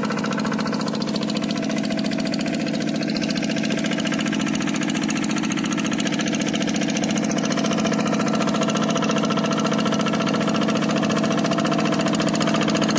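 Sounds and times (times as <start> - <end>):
diesel engine chugging: 0.0 - 12.9.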